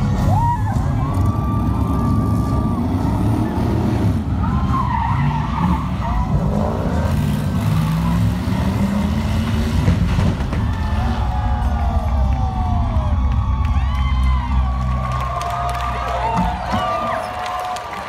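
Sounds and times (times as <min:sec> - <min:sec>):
car engines revving: 0:00.0 - 0:17.2.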